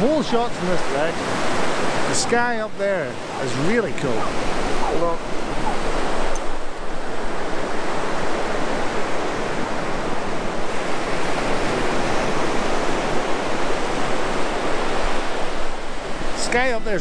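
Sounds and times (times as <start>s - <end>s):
small waves breaking on beach: 0.0s - 17.0s.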